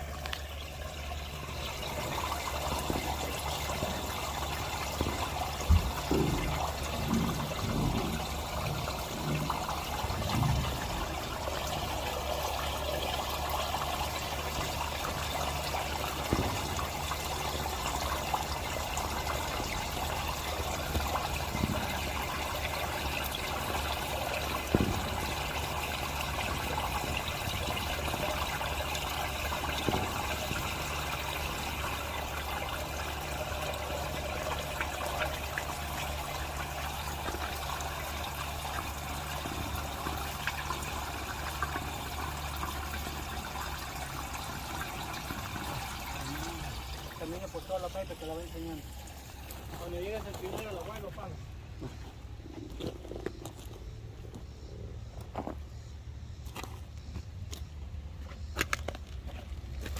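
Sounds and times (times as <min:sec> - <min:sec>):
water running through plumbing: 0:00.0 - 0:57.0.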